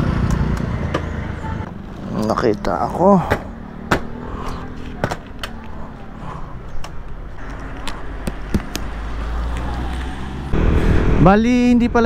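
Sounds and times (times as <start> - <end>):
low traffic rumble: 0.0 - 12.0
scooter ride rush: 0.0 - 12.0.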